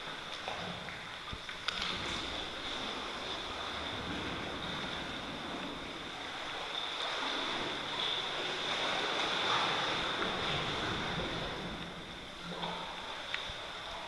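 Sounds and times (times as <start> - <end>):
sea water lapping in a cave: 0.0 - 14.0.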